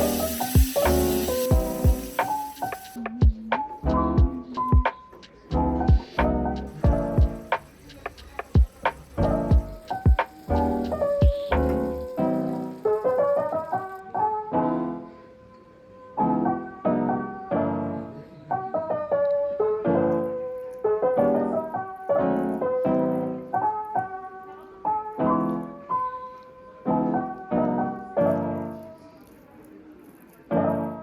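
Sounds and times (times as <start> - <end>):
slow gentle piano music: 0.0 - 31.0.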